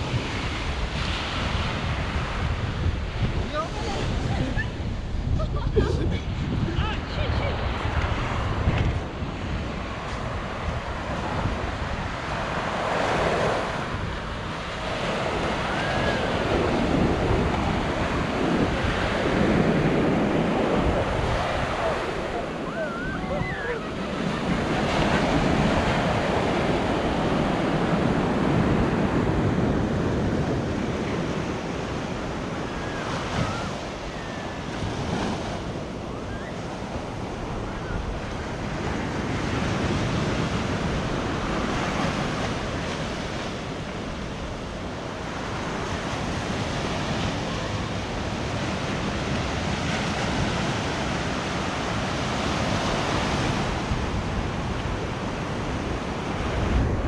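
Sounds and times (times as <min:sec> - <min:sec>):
ocean surf breaking on beach: 0:00.0 - 0:57.0
wind buffeting microphone: 0:00.0 - 0:57.0.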